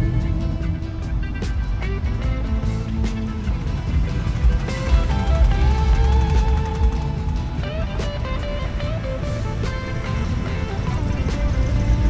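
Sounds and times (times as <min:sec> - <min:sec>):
car engine rumble passing: 0:00.0 - 0:12.0
music with melody: 0:00.0 - 0:12.0.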